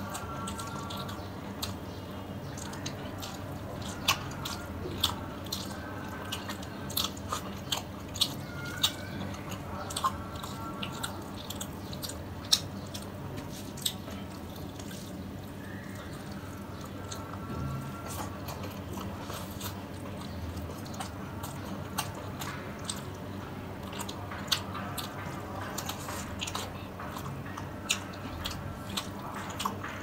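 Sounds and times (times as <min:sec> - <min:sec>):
wet chewing mouth clicks: 0:00.0 - 0:30.0.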